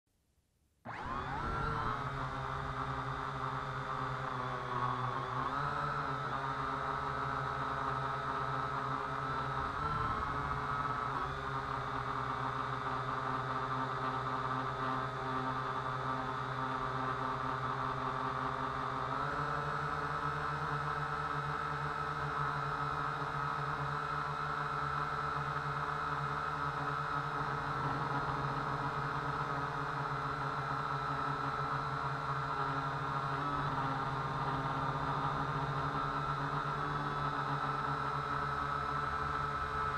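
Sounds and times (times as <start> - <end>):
drone propellers whirring: 0.9 - 39.9.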